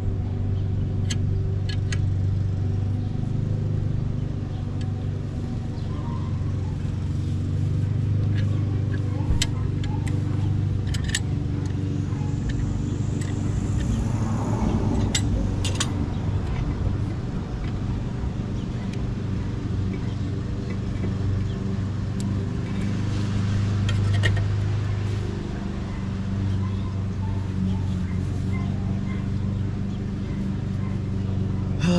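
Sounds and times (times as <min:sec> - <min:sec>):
vehicle engine humming: 0:00.0 - 0:31.9.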